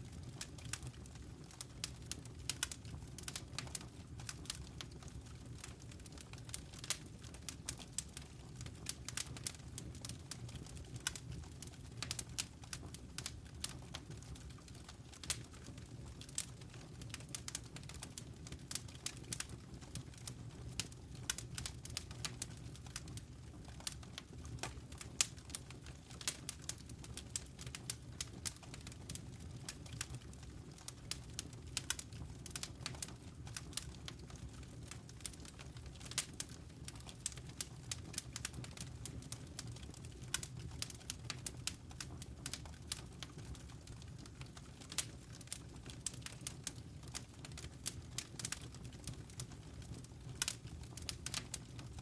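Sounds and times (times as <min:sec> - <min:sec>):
fire crackling: 0:00.0 - 0:52.0.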